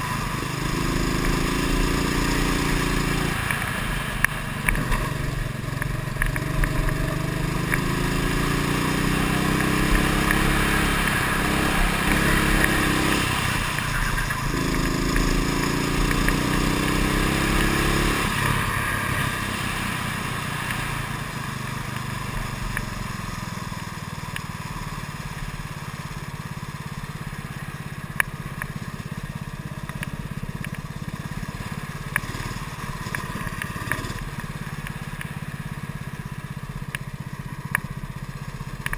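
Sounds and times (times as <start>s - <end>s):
kart engine accelerating: 0.0s - 26.3s, 28.2s - 35.2s.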